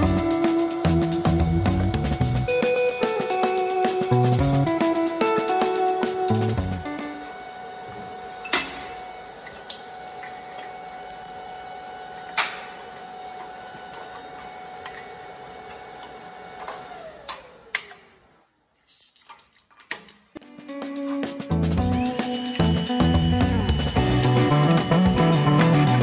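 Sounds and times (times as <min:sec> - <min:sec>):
motor hum and whine: 0:00.0 - 0:18.3, 0:21.3 - 0:26.0.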